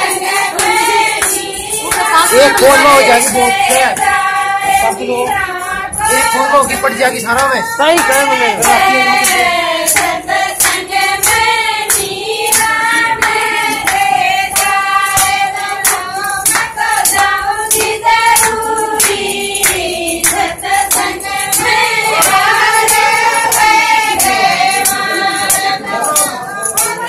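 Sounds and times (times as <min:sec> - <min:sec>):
rhythmic hand clapping: 0:00.0 - 0:27.0
women singing together: 0:00.0 - 0:27.0.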